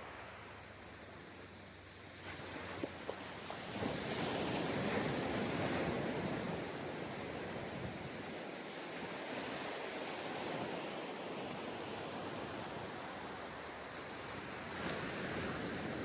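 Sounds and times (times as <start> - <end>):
ocean waves washing on beach: 0.0 - 16.0.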